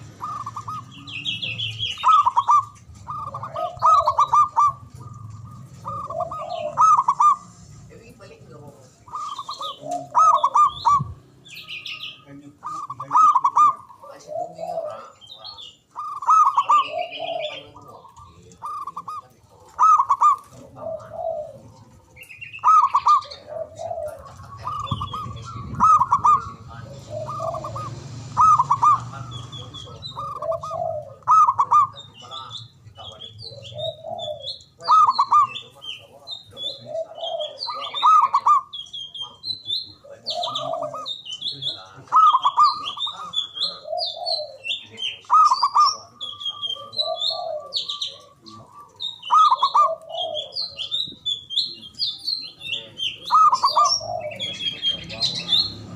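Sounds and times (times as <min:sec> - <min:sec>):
dove cooing: 0:00.0 - 0:55.9
small birds chirping: 0:00.0 - 0:55.9.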